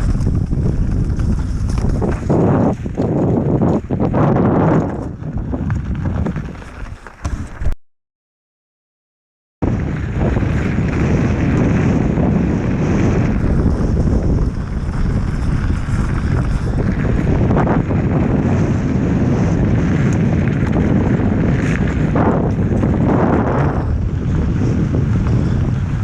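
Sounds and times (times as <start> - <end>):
wind buffeting microphone: 0.0 - 7.8, 9.6 - 26.0.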